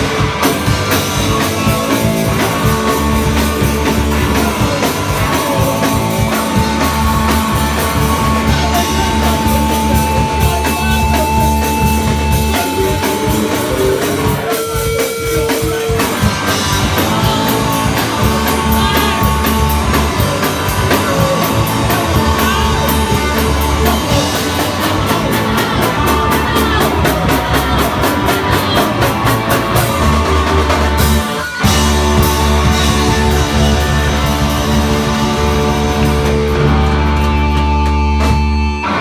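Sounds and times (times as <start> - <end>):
drum kit with cymbal hits: 0.0 - 39.0
electric guitars: 0.0 - 39.0.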